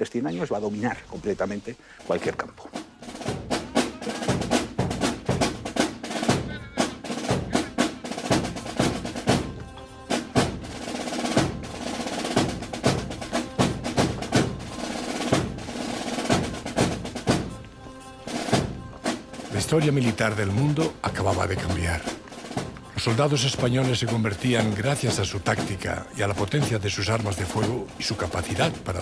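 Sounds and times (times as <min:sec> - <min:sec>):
snare drum rolls: 0:02.0 - 0:17.6, 0:18.3 - 0:29.0.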